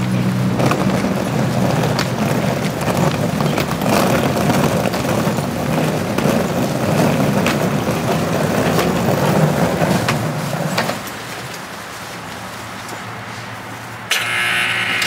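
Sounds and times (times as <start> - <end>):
suitcase wheels rumbling on concrete: 0.0 - 14.1
wheels clicking over pavement joints: 0.0 - 15.0.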